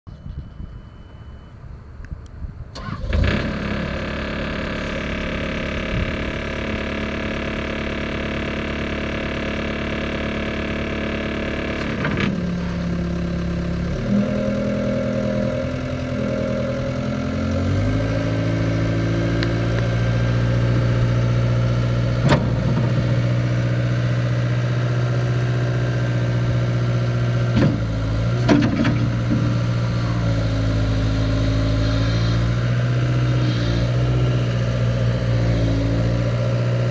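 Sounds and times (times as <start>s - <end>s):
diesel engine starting and running: 0.1s - 36.9s.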